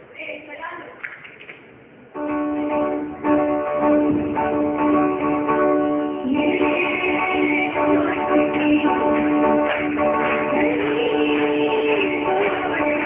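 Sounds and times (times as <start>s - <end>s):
sustained melody line: 2.2s - 13.0s
strummed acoustic guitars: 2.3s - 13.0s.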